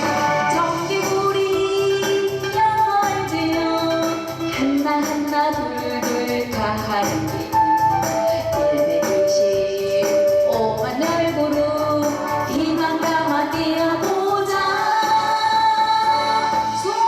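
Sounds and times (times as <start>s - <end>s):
backing track with steady beat: 0.0s - 17.0s
woman singing: 0.5s - 17.0s.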